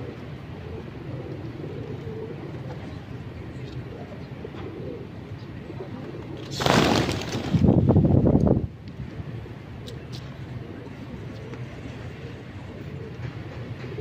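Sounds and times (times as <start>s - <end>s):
pigeons cooing: 0.0s - 7.5s, 9.3s - 14.0s.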